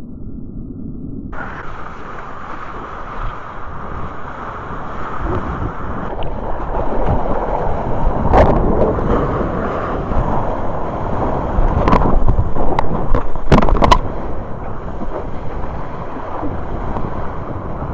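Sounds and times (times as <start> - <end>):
wind buffeting microphone: 1.3 - 17.9
ocean surf: 1.4 - 17.9
water splash: 1.4 - 17.9.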